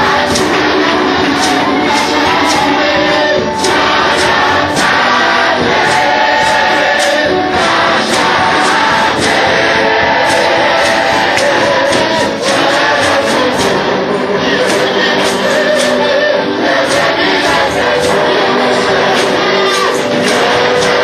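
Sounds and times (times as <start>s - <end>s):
choir singing gospel with band: 0.0s - 21.0s.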